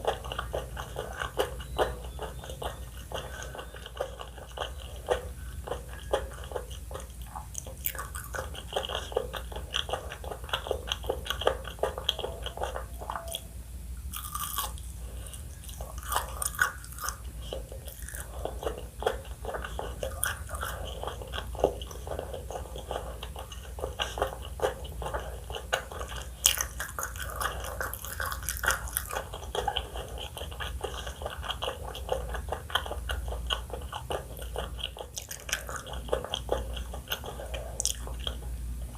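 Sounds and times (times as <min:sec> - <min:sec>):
person chewing crunchy food: 0:00.0 - 0:38.9
wet mouth sounds: 0:00.0 - 0:38.9.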